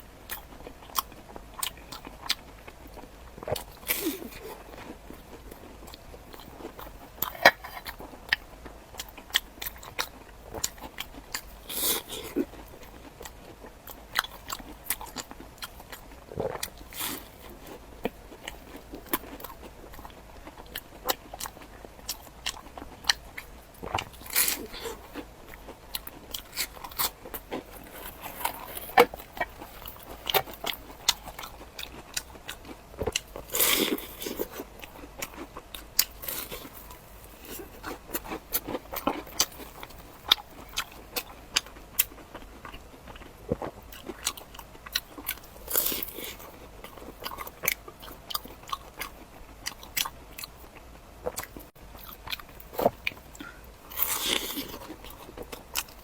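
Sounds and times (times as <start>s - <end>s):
crunchy chewing of crisp food: 0.0s - 56.0s.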